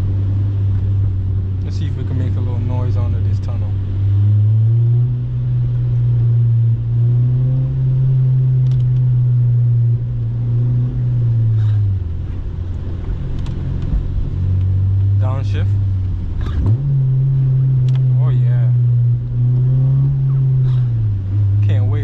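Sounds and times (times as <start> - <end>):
car engine droning while cruising: 0.0 - 22.0.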